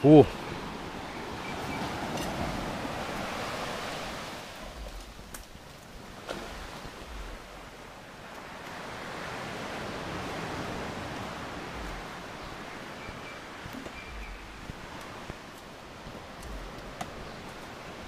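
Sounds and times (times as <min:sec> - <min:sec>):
steady rushing noise: 0:02.1 - 0:18.0.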